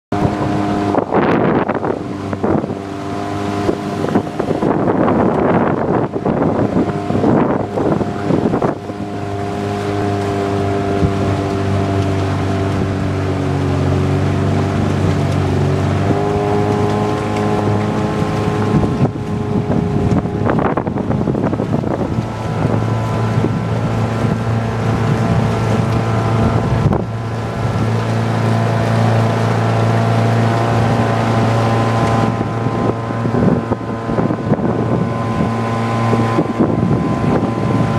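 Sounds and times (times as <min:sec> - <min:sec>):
motorboat engine running: 0:00.1 - 0:37.9
wind buffeting microphone: 0:00.1 - 0:37.9.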